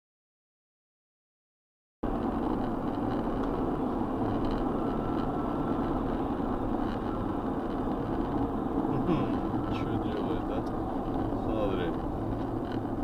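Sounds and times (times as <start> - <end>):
vehicle engine and road noise: 2.0 - 13.0.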